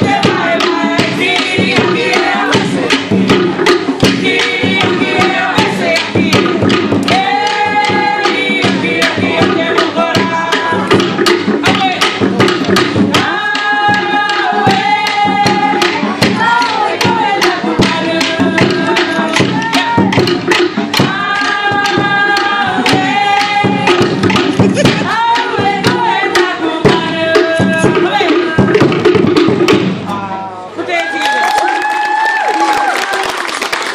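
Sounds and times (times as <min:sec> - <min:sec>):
group singing held notes: 0:00.0 - 0:29.1
hand drums fast beat: 0:00.0 - 0:30.3.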